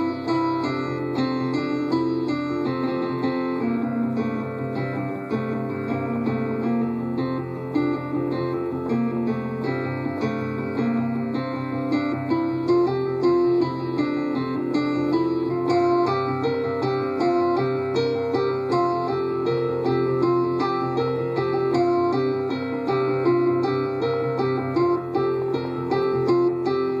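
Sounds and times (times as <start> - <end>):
piano-like keyboard music: 0.0 - 27.0.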